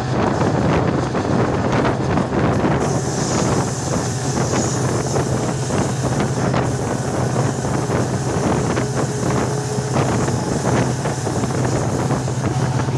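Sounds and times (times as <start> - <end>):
train wheels on the track: 0.0 - 12.9
wind rushing over microphone: 0.0 - 12.9.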